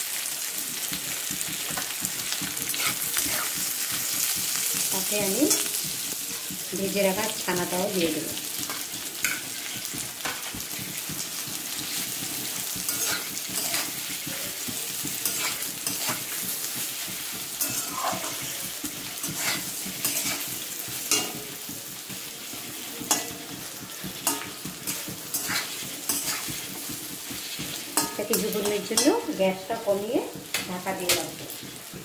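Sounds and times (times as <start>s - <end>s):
food sizzling in oil: 0.0s - 32.0s
metal spatula scraping pan: 1.5s - 32.0s.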